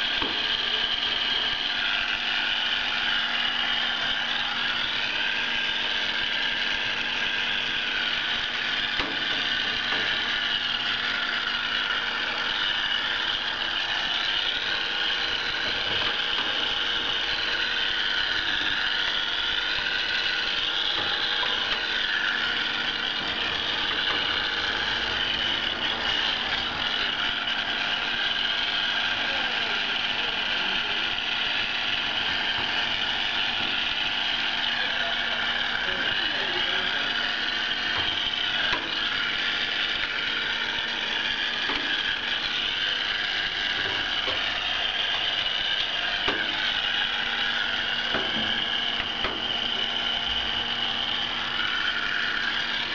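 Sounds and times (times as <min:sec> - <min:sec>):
hair dryer blowing: 0:00.0 - 0:52.9.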